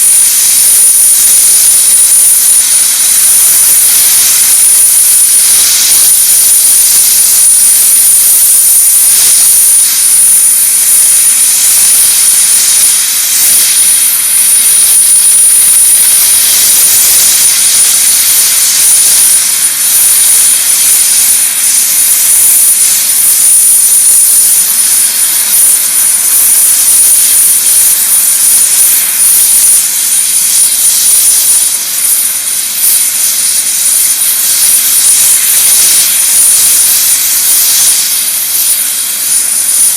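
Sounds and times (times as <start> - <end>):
helicopter turbine engine whine: 0.0 - 39.9.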